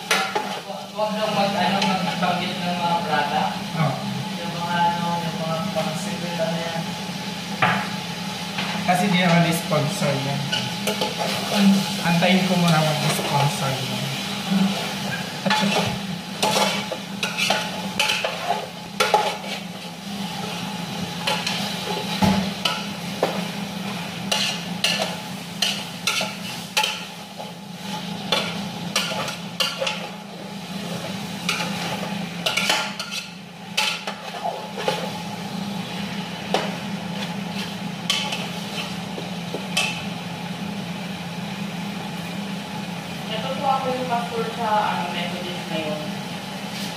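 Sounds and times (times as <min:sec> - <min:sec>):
faint sizzle: 0:00.0 - 0:46.9.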